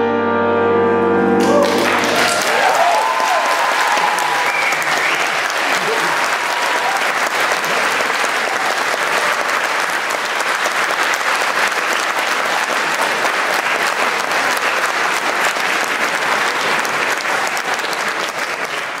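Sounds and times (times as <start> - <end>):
audience applauding: 1.4 - 19.0.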